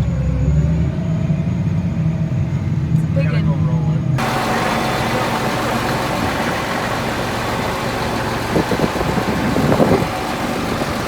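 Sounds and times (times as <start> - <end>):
tractor engine from inside cab: 0.0 - 11.0.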